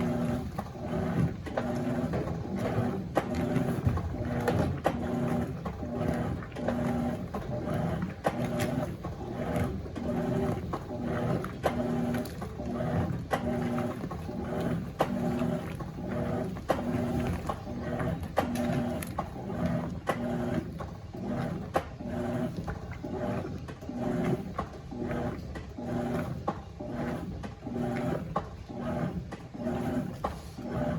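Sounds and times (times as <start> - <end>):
washing machine motor humming: 0.0 - 30.9.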